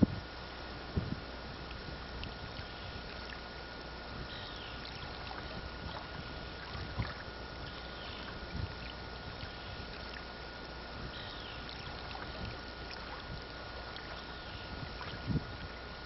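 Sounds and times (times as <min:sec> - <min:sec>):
river water washing: 0:02.2 - 0:16.0.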